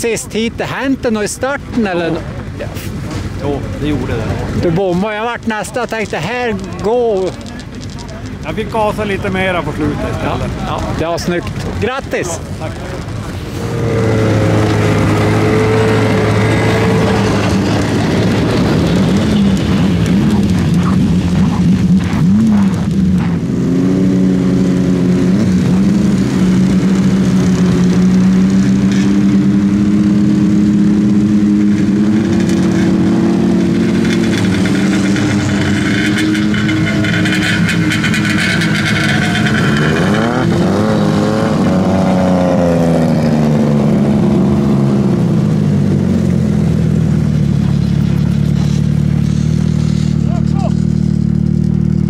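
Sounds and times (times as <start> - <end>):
snowmobile engine running: 0.0 - 52.0.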